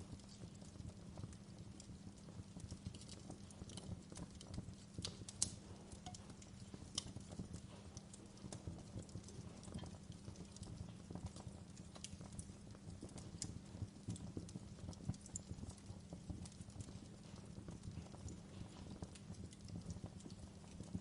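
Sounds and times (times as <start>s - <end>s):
log fire crackling and popping: 0.0s - 21.0s.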